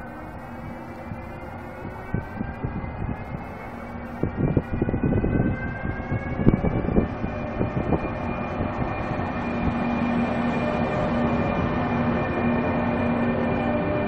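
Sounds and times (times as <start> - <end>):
steady low hum: 0.0 - 13.9
electric locomotive traction whine: 0.0 - 14.0.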